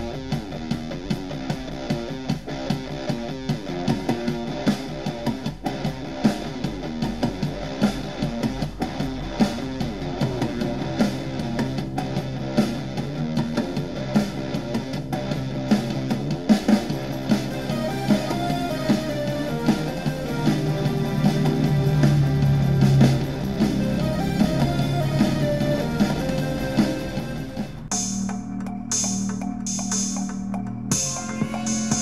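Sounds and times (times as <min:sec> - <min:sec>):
guitar-led rock music: 0:00.0 - 0:28.6.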